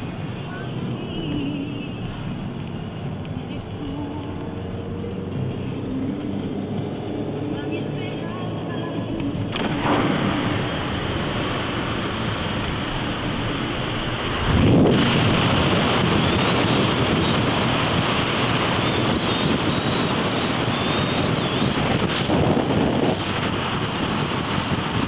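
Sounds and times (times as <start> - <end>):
road noise: 0.0 - 25.0
wind rushing over microphone: 0.0 - 25.0.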